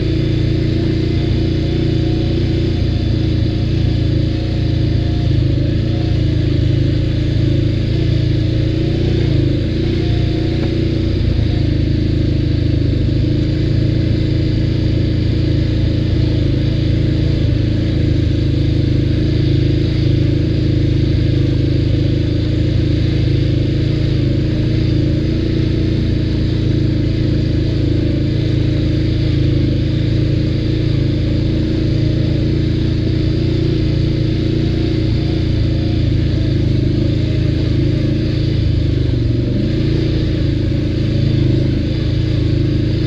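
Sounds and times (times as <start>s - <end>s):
atv engine running steadily: 0.0s - 43.0s.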